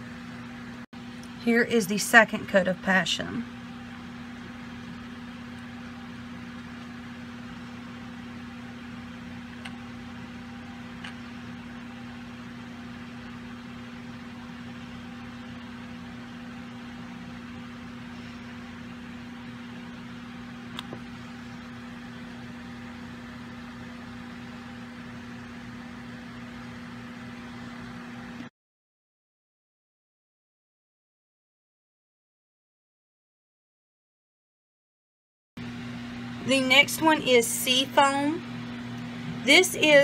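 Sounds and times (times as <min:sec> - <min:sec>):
low hum over hiss: 0:00.0 - 0:28.5, 0:35.6 - 0:40.0.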